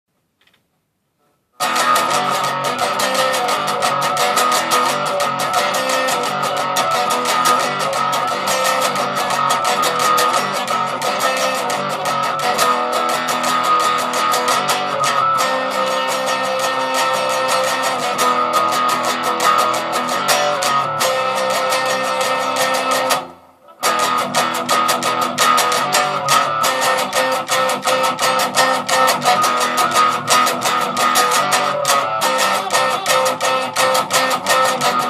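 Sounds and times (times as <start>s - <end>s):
distorted electric guitar: 1.6s - 35.0s.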